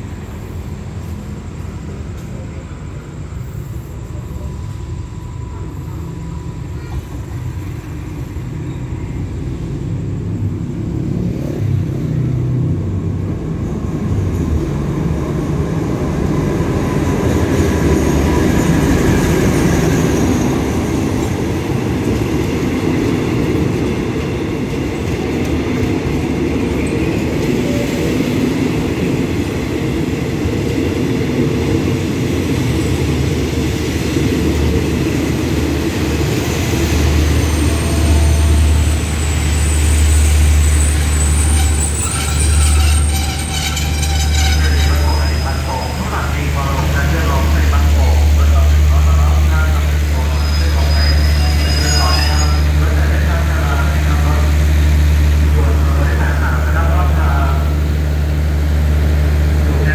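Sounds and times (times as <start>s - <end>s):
diesel locomotive passing: 0.0s - 59.9s
train wheels rumbling on rails: 0.0s - 59.9s.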